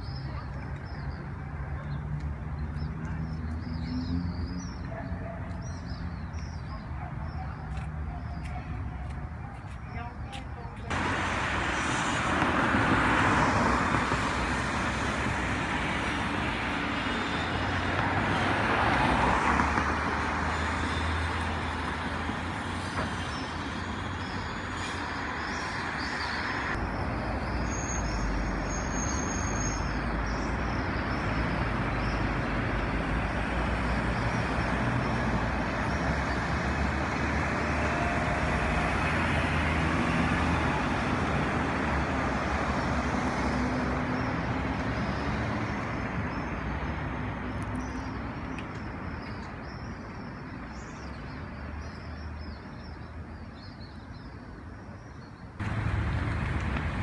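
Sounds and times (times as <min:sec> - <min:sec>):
cars driving past: 0:00.0 - 0:06.6, 0:10.9 - 0:49.7, 0:55.6 - 0:57.0.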